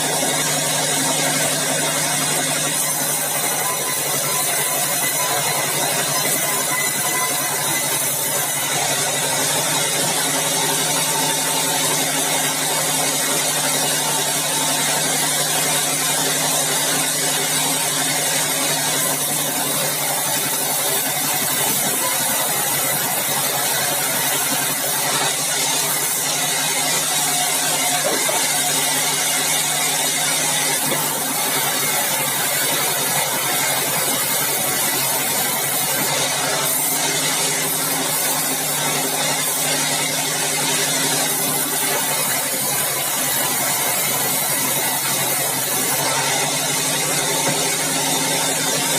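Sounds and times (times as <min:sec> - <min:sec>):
bandsaw mill running: 0:00.0 - 0:48.9.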